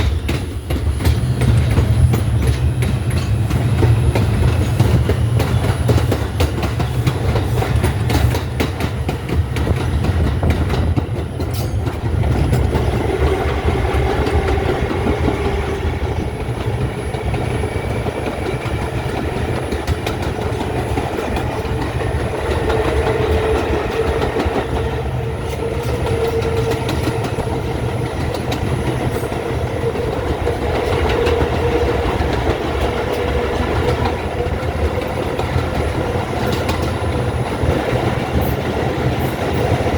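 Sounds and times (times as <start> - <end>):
subway train rumble: 0.0 - 39.9
wheels clicking over rail joints: 0.0 - 39.9.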